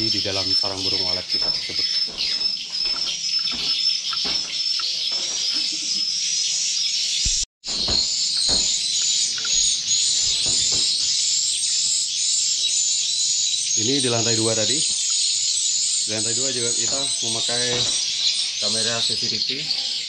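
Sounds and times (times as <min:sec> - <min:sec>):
swiftlets twittering: 0:00.0 - 0:06.2, 0:07.2 - 0:20.0.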